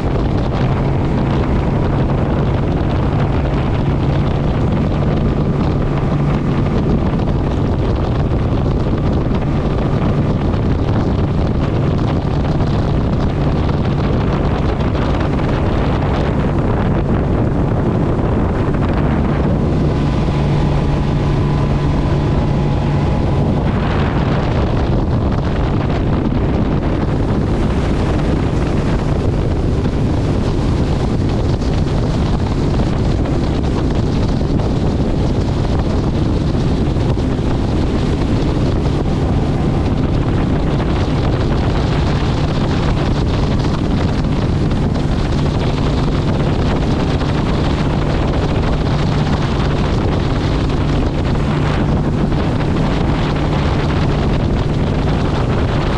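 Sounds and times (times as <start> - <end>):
motorcycle engine drone: 0.0 - 55.9
wind buffeting microphone: 0.0 - 55.9.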